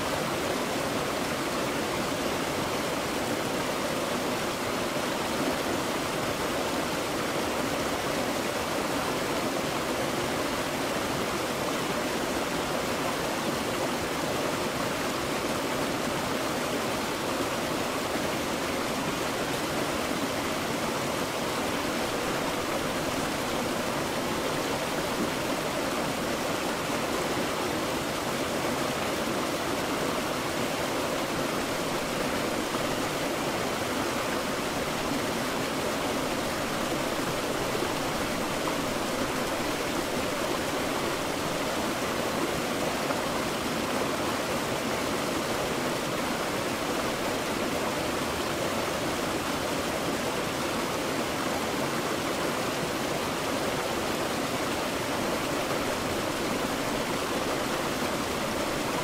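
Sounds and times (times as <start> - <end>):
waterfall splashing over rocks: 0.0 - 59.0.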